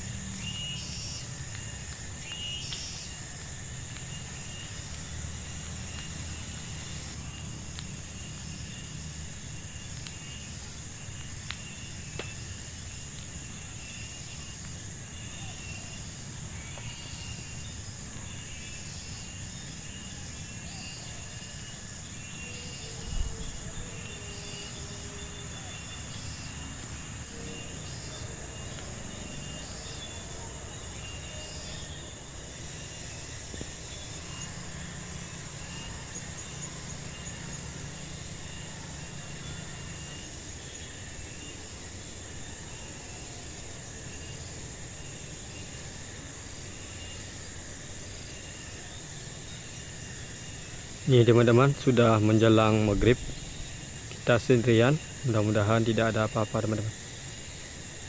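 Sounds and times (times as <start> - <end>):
high insect drone: 0.0 - 58.0
insect chirps: 0.0 - 58.0.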